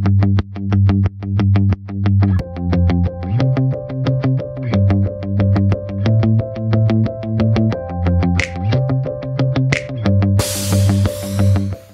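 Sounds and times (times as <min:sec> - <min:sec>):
music with bass line: 0:00.0 - 0:11.9.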